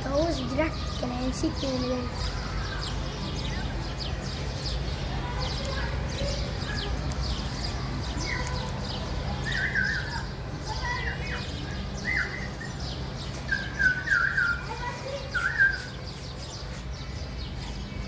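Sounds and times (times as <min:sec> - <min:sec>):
songbirds chirping and warbling: 0:00.0 - 0:18.0.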